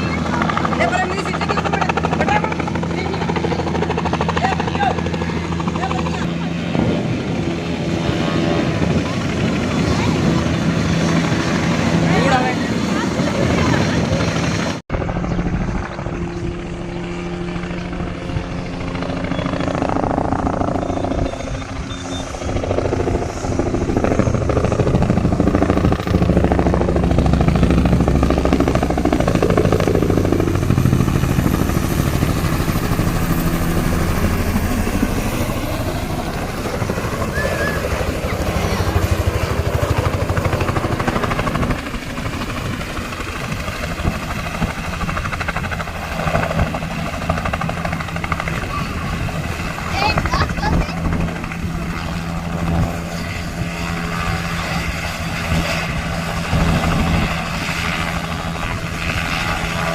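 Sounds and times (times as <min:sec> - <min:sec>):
helicopter rotor beat: 0:00.0 - 0:59.9.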